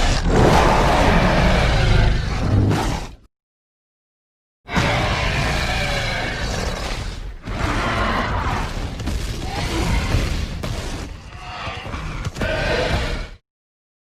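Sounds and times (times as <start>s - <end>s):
creature roars and growls: 0.0s - 3.3s, 4.7s - 13.4s.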